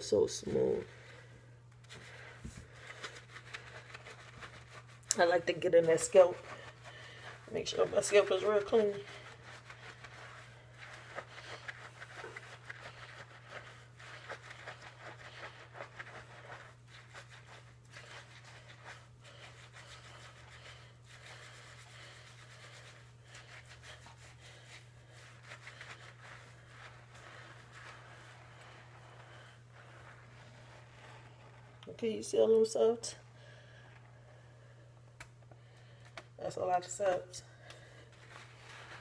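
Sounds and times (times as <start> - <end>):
fingers scrubbing lathered scalp: 1.9 - 33.0, 38.0 - 39.0.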